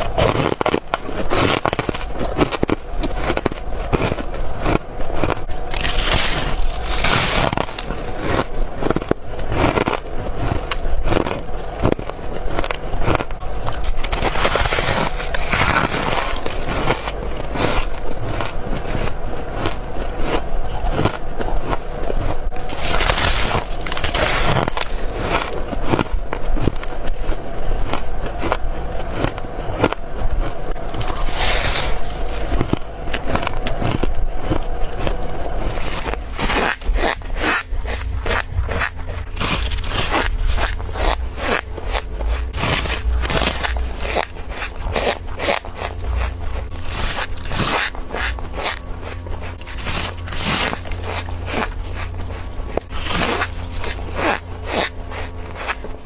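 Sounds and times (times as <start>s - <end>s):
frost being chewed crunching: 0.0s - 26.7s, 33.2s - 56.0s.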